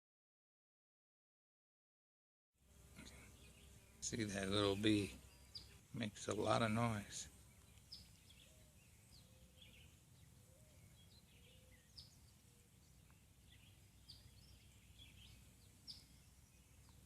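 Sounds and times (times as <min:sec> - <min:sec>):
birds chirping: 0:02.7 - 0:17.0.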